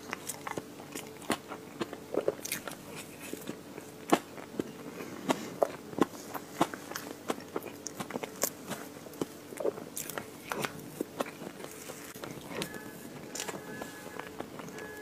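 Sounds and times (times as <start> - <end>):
crackly biting and chewing: 0.0 - 15.0.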